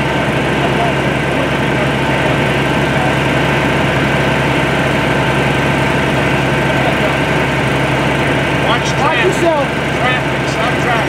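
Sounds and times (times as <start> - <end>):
power unit engine running: 0.0 - 11.0.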